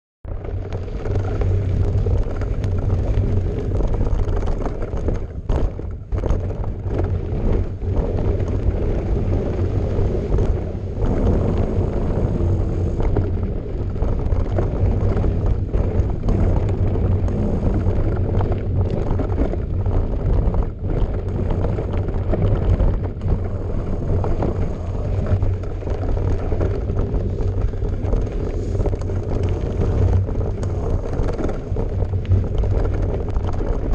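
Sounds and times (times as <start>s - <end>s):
wind rumbling on microphone: 0.2s - 33.9s
bike tyres rattling on dirt: 0.3s - 33.9s.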